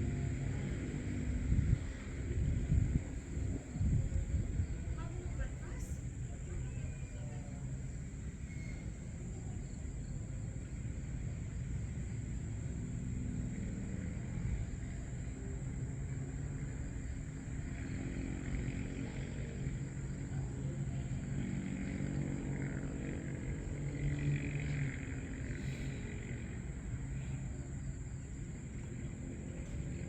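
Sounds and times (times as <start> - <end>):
distant engines rumbling: 0.0 - 30.0
faint high whine: 0.0 - 30.0.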